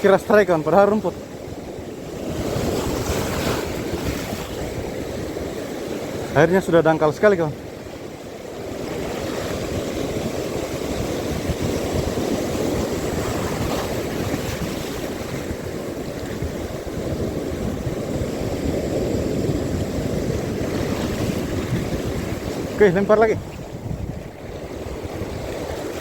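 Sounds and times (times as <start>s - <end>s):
sea water washing: 0.0s - 26.0s
wind buffeting microphone: 0.0s - 26.0s.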